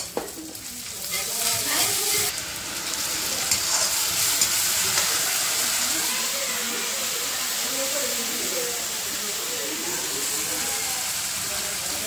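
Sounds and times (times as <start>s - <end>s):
spices sizzling in a hot pan: 0.0s - 12.0s.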